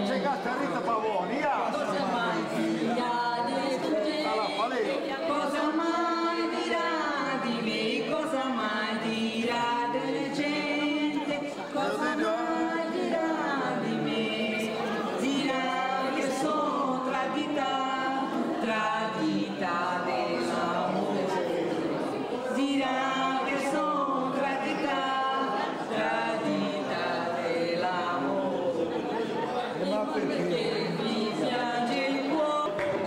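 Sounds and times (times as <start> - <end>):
voices singing along: 0.0 - 33.0
woman singing into microphone: 2.1 - 21.1, 22.5 - 28.3, 29.9 - 33.0.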